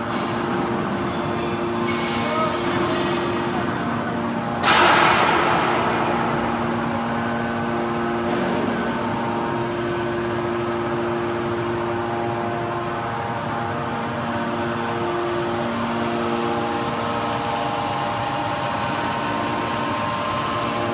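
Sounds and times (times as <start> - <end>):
hydraulic unit humming: 0.0 - 20.9.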